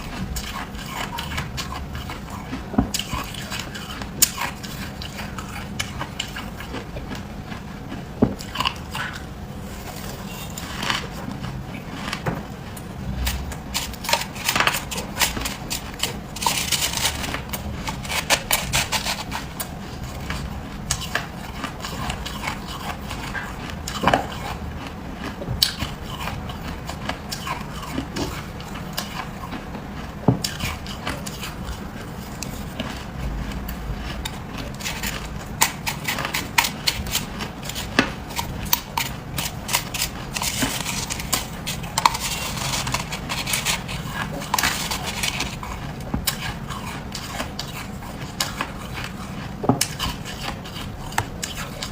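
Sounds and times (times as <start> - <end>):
frost crunching between teeth: 0.0 - 51.9.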